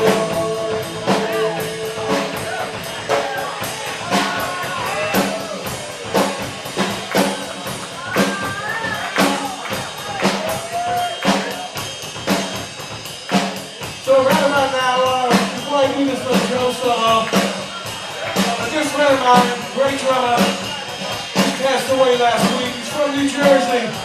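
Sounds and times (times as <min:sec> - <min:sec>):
drum kit hits: 0:00.0 - 0:24.0
rock band playing: 0:00.0 - 0:24.0.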